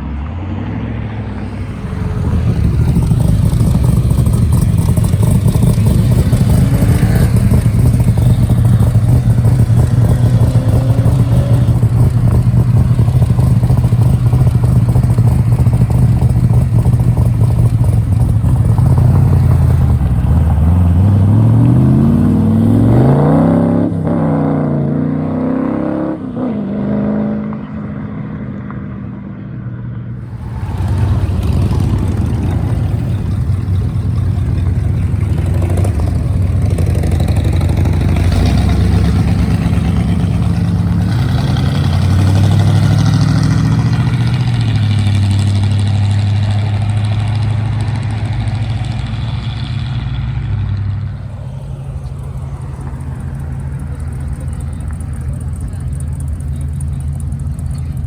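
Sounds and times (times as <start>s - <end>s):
car engine rumbling and revving: 0.0s - 58.0s
another engine rumble: 1.2s - 24.7s, 30.2s - 58.0s.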